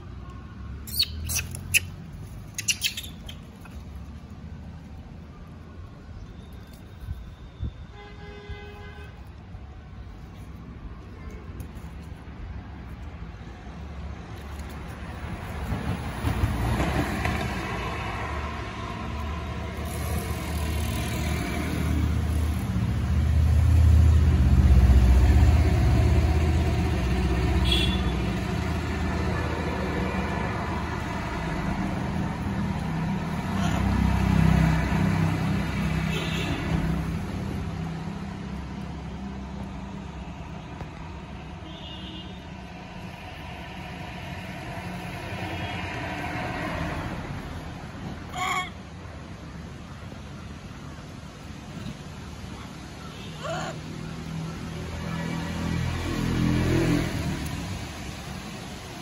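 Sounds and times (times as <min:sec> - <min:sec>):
vehicle engines rumbling past: 0:09.9 - 0:59.0.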